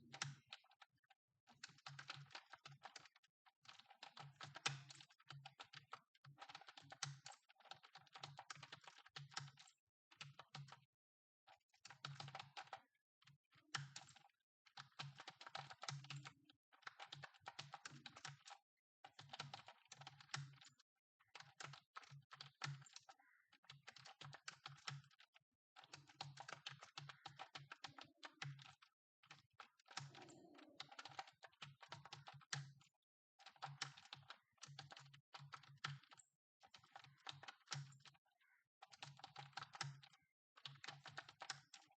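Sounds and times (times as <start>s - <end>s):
faint keyboard typing: 0.0s - 41.9s.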